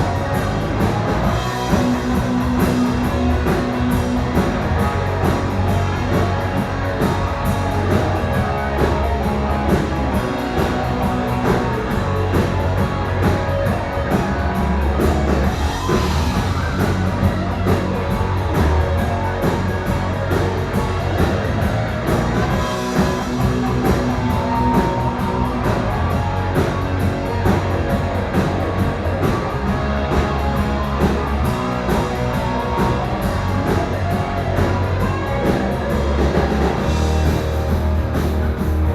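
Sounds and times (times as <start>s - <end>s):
rock music with guitar and drums: 0.0s - 38.9s.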